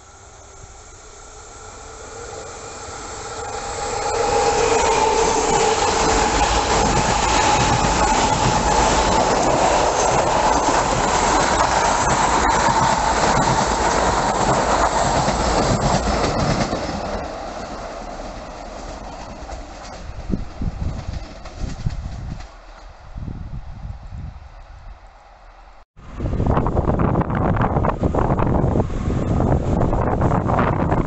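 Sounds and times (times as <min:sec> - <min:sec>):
train wheels rushing on rails: 0:00.0 - 0:31.0.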